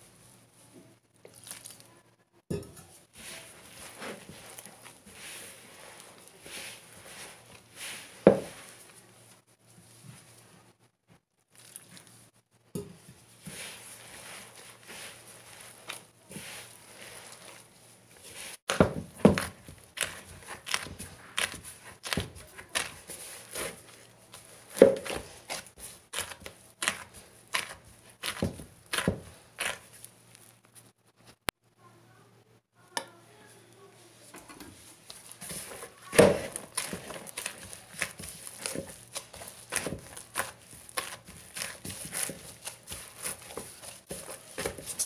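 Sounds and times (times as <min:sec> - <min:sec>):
hand mixing dough in plastic bowl: 0:00.0 - 0:02.0, 0:02.9 - 0:10.7, 0:11.4 - 0:30.9, 0:33.0 - 0:45.0.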